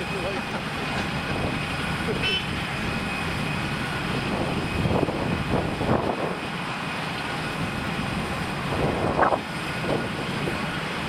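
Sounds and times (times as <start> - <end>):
jet engines at low power: 0.0 - 11.0.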